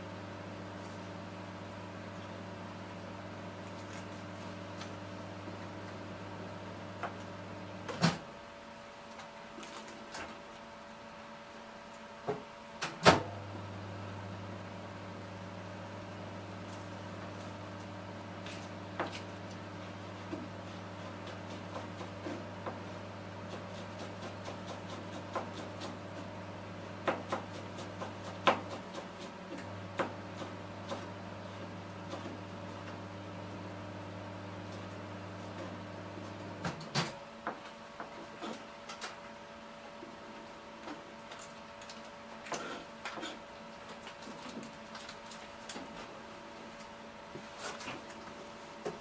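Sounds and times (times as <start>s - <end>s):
electrical hum: 0.0s - 49.0s.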